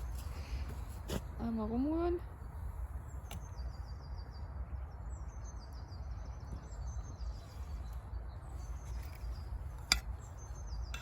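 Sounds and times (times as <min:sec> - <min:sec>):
songbird singing trilled phrases: 0:01.4 - 0:11.0.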